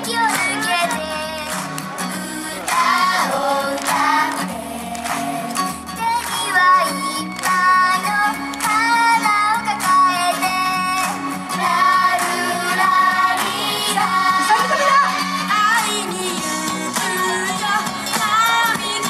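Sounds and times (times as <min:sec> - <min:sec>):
pop song with high vocals: 0:00.0 - 0:19.0.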